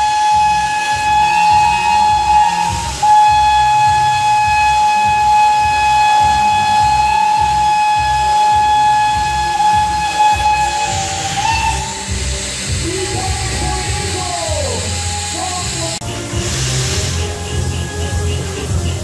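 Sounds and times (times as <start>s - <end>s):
music with pulsing low beat: 0.0s - 19.0s
steam locomotive whistle: 0.0s - 19.0s.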